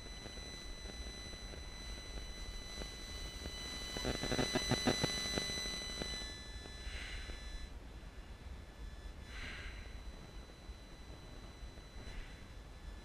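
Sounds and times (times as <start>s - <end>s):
rapid buzzing pulses: 0.0s - 7.8s, 8.4s - 13.0s
high electronic whine: 0.0s - 13.0s.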